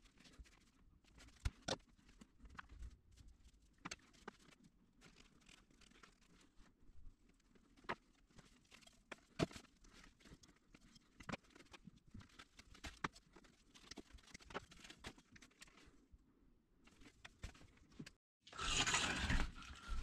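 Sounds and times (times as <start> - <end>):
faint cable rustling: 0.0 - 16.2.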